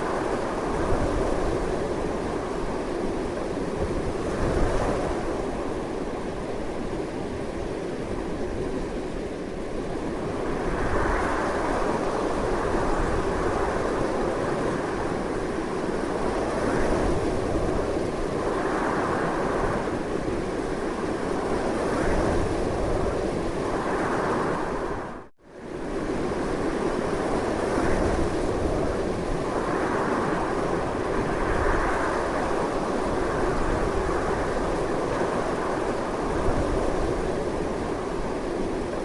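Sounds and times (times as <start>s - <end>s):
strong wind blowing: 0.0s - 39.0s.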